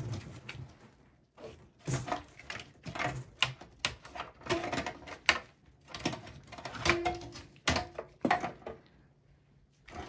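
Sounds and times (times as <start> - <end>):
wires rustling and rattling: 0.0 - 9.0.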